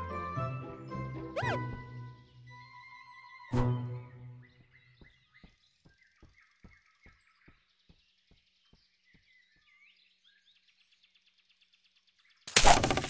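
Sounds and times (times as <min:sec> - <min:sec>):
small birds chirping: 0:01.1 - 0:13.0.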